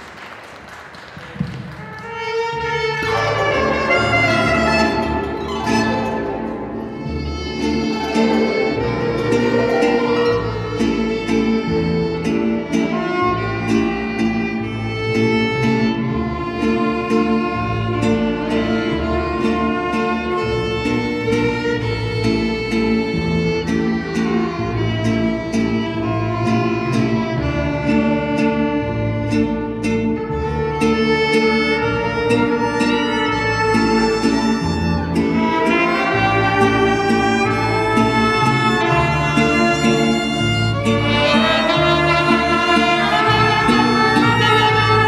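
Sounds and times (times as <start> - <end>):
guitars: 1.3 - 45.0
violin melody: 1.5 - 45.0
plucked bass line: 2.8 - 45.0.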